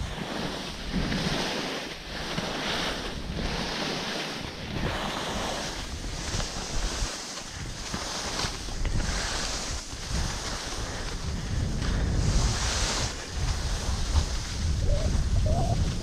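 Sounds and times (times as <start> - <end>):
skis scraping over snow: 0.0 - 16.0
wind rushing over microphone: 0.0 - 16.0.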